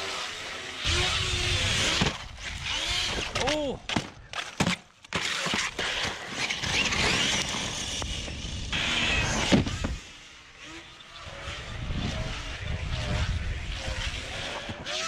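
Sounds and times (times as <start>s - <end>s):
electric motor whining: 0.0s - 3.6s, 5.3s - 15.0s.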